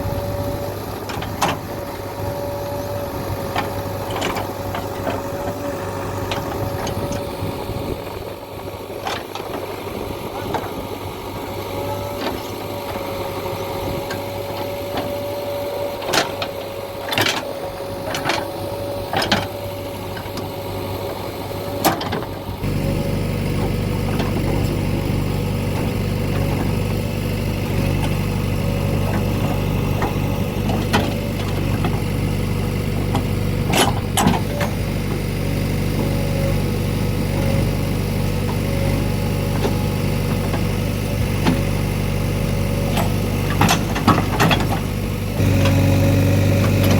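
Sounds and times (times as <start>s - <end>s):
diesel engine running with whine: 0.0s - 46.9s.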